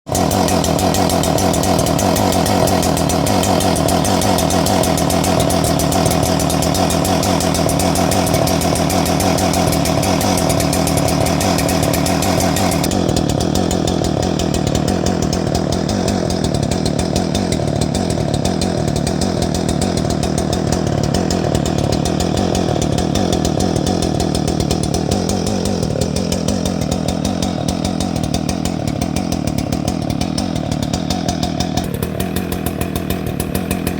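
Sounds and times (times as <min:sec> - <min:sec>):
chainsaw cutting branches: 0:00.1 - 0:33.9.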